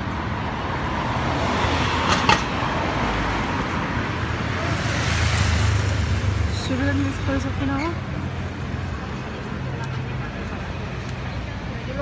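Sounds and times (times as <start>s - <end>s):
road vehicles passing: 0.0s - 12.0s.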